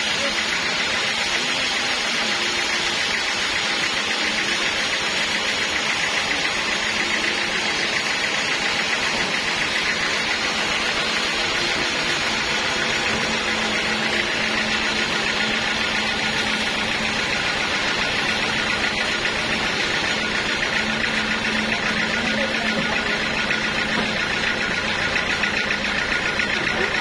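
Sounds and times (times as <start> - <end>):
band saw running: 0.0 - 27.0.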